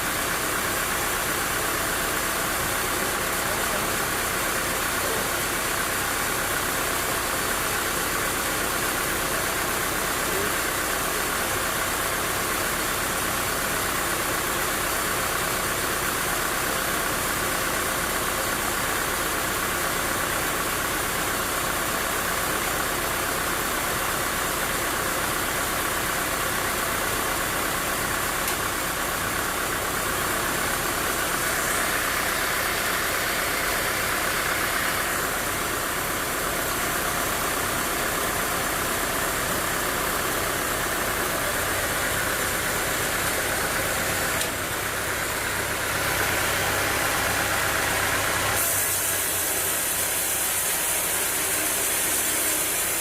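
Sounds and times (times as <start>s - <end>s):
sawmill machinery drone: 0.0s - 53.0s.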